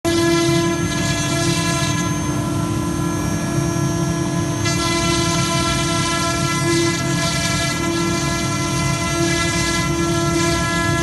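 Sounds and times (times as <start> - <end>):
router spindle whine: 0.1 - 11.0.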